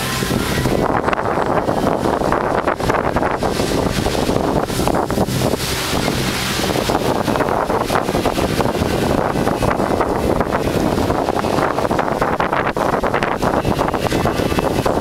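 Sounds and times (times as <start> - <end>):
water washing: 0.0 - 15.0
wind buffeting microphone: 0.0 - 15.0.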